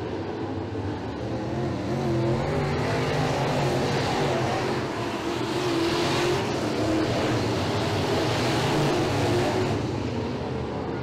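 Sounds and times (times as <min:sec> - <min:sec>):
race car engines running hard: 0:00.0 - 0:11.0.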